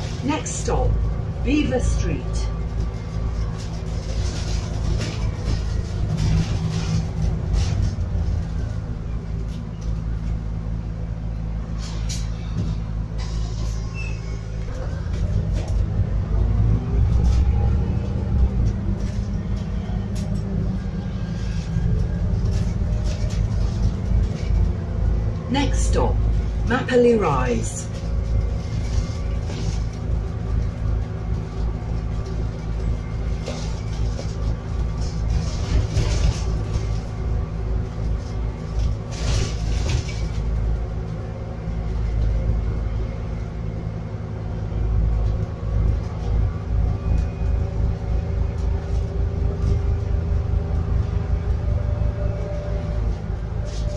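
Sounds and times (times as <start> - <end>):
bus engine drone: 0.0 - 53.9
road rumble: 0.0 - 53.9.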